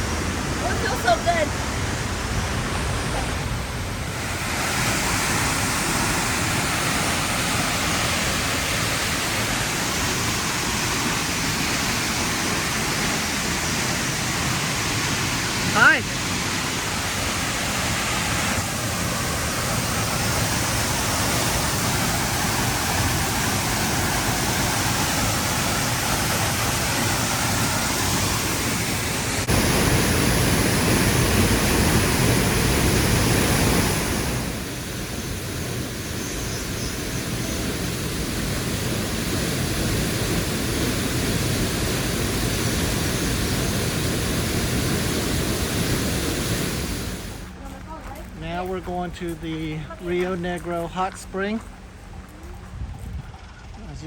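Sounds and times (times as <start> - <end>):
waterfall rushing: 0.0 - 47.6.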